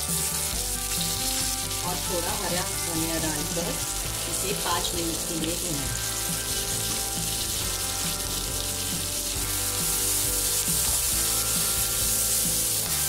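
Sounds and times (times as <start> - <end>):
background music: 0.0 - 13.0
spatula stirring: 0.0 - 13.0
vegetables sizzling in hot oil: 0.0 - 13.0.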